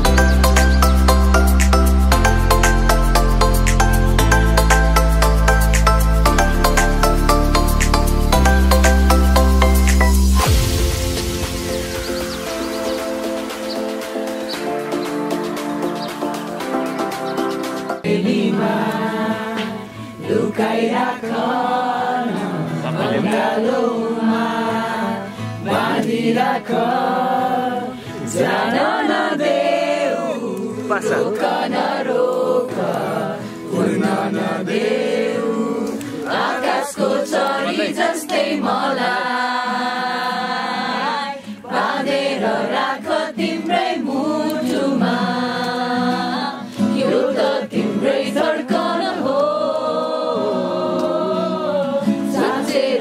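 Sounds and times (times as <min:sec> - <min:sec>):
group of voices singing: 0:00.0 - 0:53.0.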